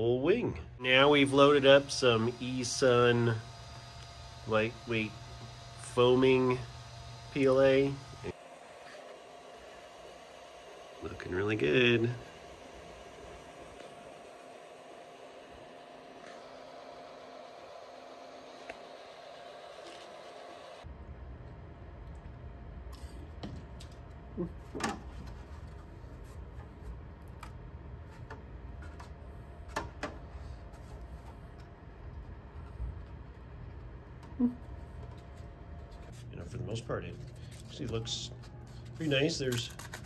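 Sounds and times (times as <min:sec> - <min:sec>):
printer cooling fans whirring: 0:00.0 - 0:40.0.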